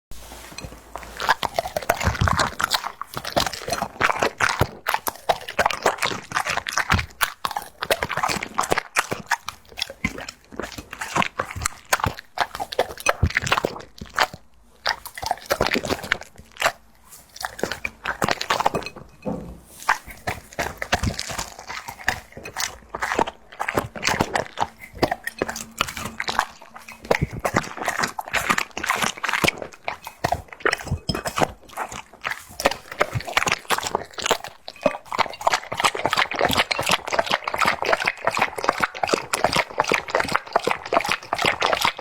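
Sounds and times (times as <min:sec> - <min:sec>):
dog lapping and eating: 0:00.3 - 0:42.0.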